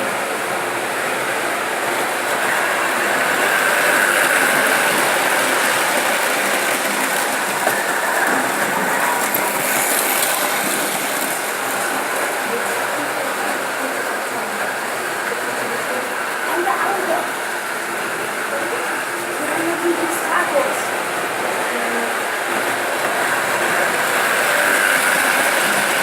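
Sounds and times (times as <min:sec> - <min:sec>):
model train motor whirring: 0:00.0 - 0:26.0.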